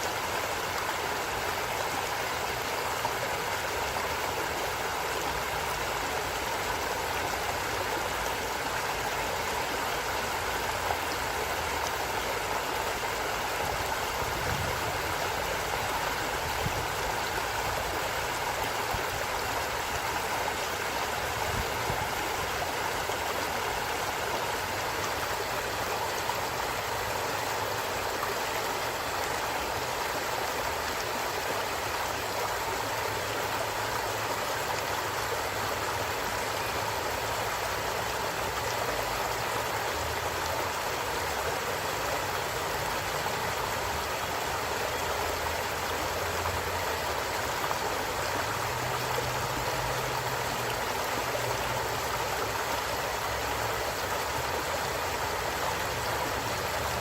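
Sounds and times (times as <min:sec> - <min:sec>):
stream water rushing and gurgling: 0:00.0 - 0:57.0.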